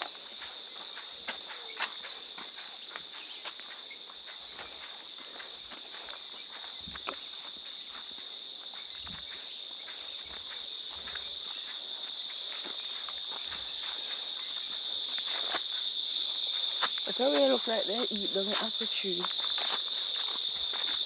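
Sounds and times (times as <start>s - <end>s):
footsteps on ground: 0.0s - 21.0s
insects droning: 0.0s - 21.0s
pulsing insect trill: 0.0s - 21.0s.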